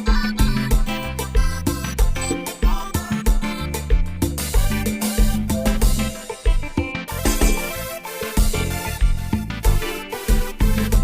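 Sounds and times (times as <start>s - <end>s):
bass line: 0.0s - 11.0s
drum kit with kick: 0.0s - 11.0s
keyboard synthesizer groove: 0.0s - 11.0s.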